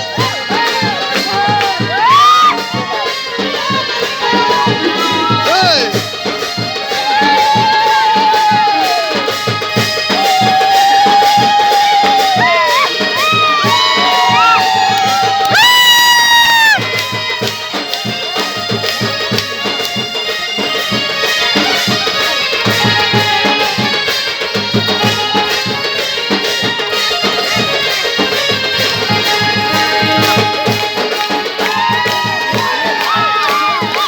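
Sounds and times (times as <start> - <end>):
folk music: 0.0 - 34.0
steady drum beat: 0.0 - 34.0.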